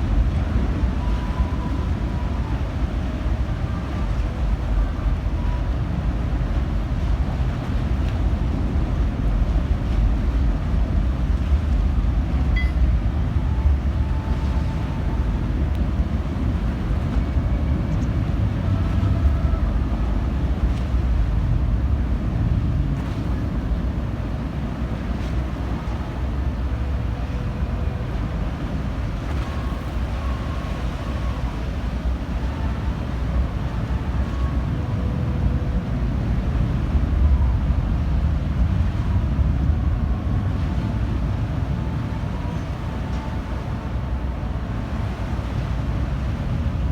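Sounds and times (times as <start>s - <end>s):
ship engines rumbling: 0.0s - 46.9s.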